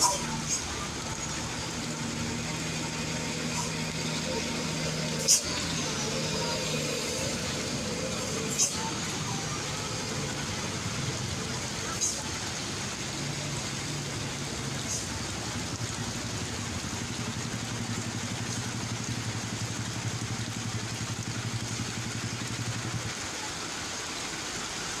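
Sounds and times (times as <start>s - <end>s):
vehicle engine running: 0.0s - 23.8s
road noise: 0.0s - 25.0s.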